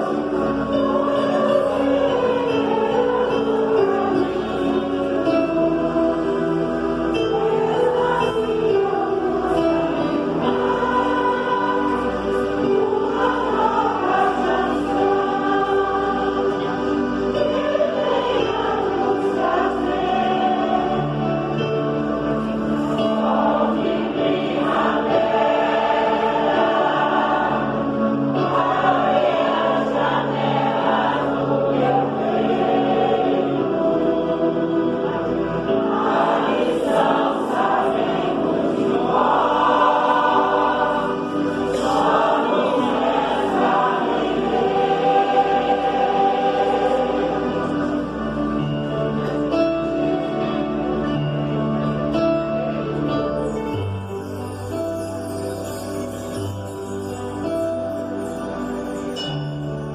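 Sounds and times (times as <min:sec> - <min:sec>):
mixed choir singing: 0:00.0 - 0:53.9
instrumental accompaniment: 0:00.0 - 0:59.9.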